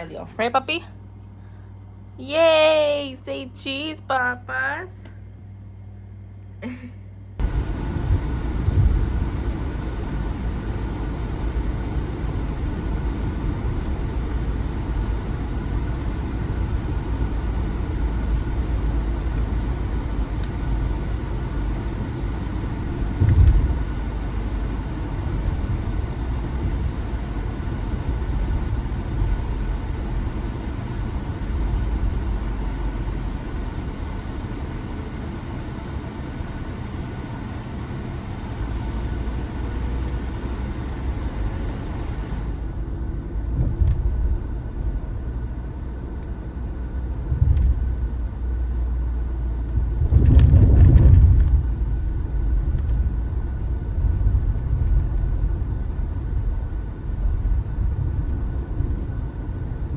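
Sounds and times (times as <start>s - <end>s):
car engine running: 0.0s - 4.8s, 7.4s - 59.9s.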